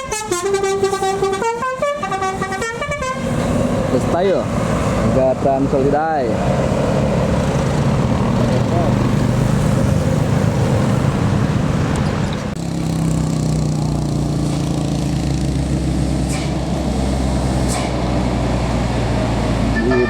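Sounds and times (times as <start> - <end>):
heavy diesel bus engine: 0.0 - 20.0.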